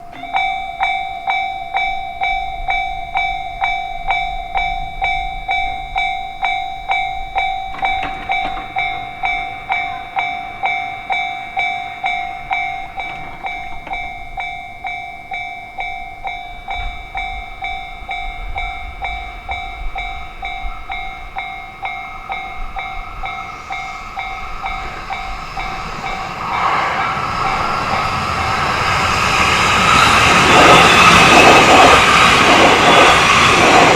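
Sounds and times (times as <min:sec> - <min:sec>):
approaching train: 0:00.0 - 0:33.9
railway crossing bell ringing: 0:00.0 - 0:33.9.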